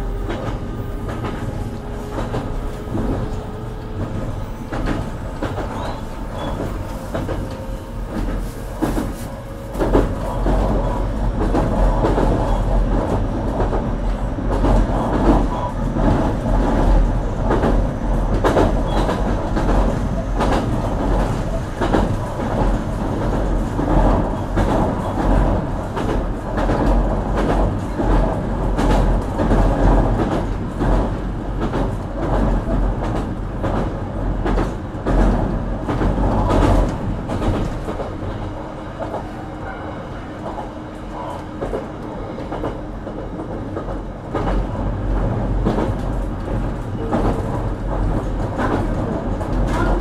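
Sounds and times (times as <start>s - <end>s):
train rumble inside car: 0.0s - 50.0s.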